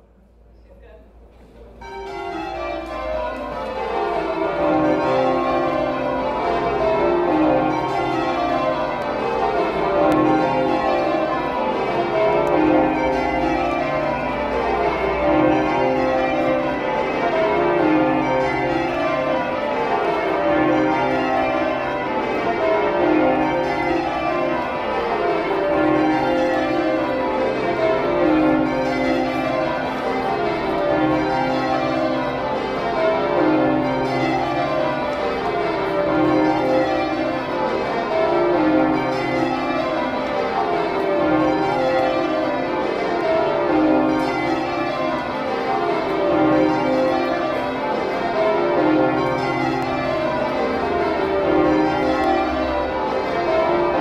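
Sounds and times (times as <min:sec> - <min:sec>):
church bells pealing: 0:01.7 - 0:54.0.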